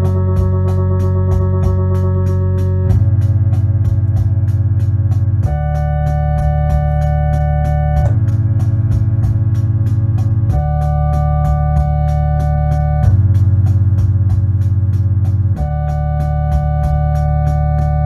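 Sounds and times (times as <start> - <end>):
fast ticking beat: 0.0 - 18.0
organ playing held chords: 0.0 - 18.0.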